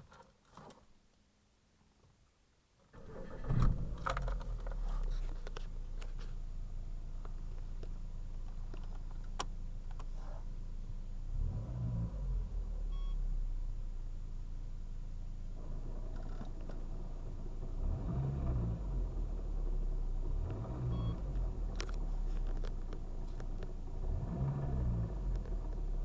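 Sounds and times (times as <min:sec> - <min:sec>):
car engine idling and revving: 0:03.1 - 0:26.0.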